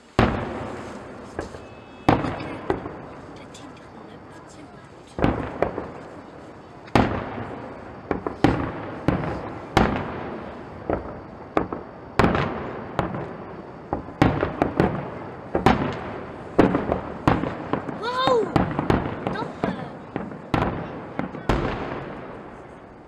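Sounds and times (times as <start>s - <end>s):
fireworks bursting with echo: 0.0s - 23.0s.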